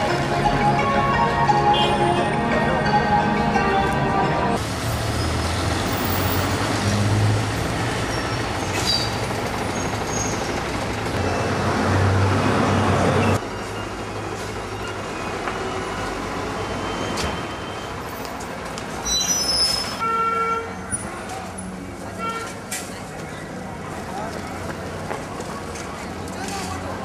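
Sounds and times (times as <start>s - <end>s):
passing and idling vehicles: 0.0s - 27.0s.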